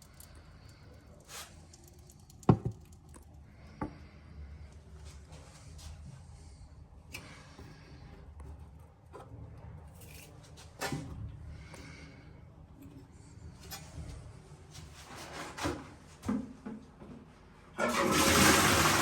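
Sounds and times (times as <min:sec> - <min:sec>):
low background hum: 0:00.0 - 0:17.8.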